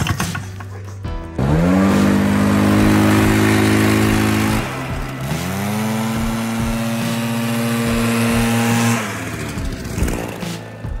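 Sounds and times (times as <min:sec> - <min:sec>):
leaf blower engine whining: 0:01.4 - 0:11.0.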